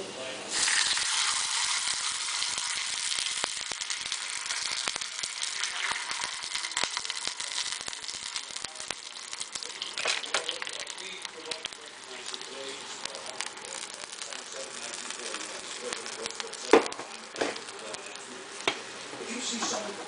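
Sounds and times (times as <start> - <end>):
liquid boiling and sizzling: 0.2 - 20.0.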